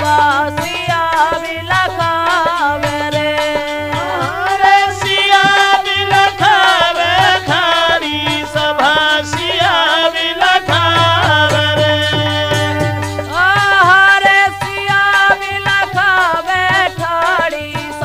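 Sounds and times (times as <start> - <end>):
dholak drum beat: 0.0 - 18.0
ornamented folk melody: 0.0 - 18.0.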